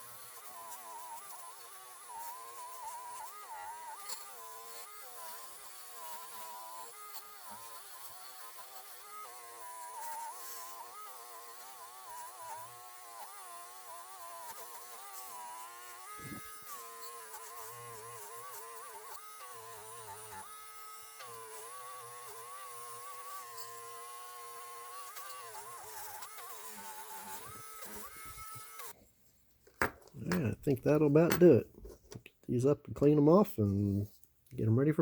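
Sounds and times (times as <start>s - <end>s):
rotary tool buzzing whine: 0.0s - 29.0s.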